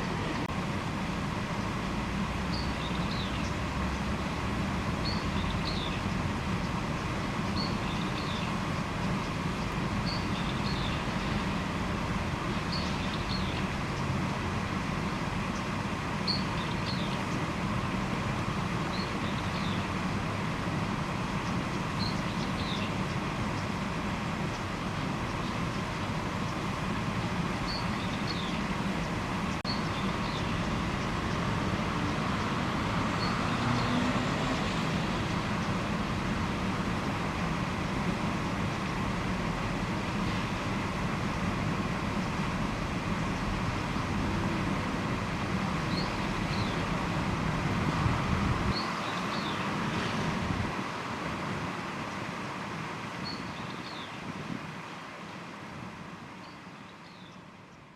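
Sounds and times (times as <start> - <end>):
low rumbling background noise: 0.0 - 57.9.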